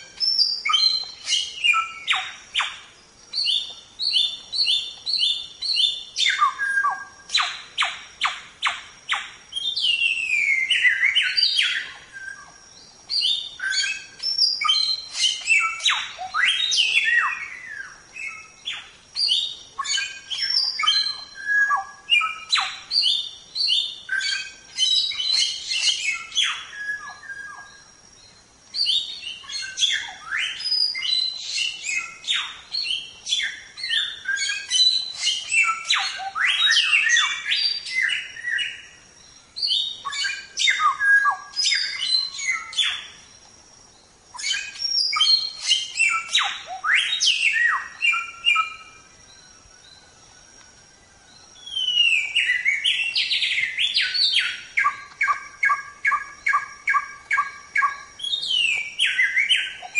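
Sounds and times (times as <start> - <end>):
bird singing rapid chirps and whistles: 0.0 - 43.2, 44.3 - 50.0, 51.4 - 59.9.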